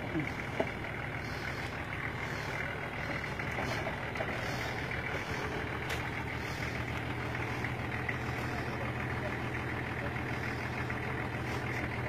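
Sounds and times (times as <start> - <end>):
vehicle engine at low revs: 0.0 - 12.0.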